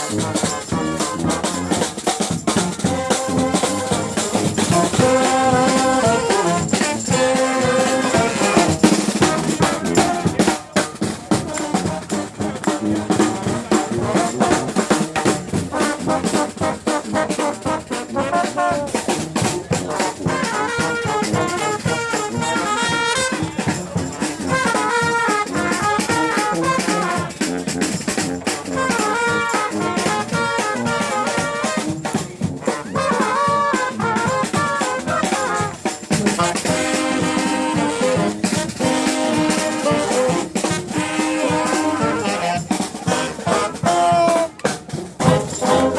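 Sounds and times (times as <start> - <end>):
driving drum beat: 0.0 - 45.9
horns playing: 0.0 - 45.9.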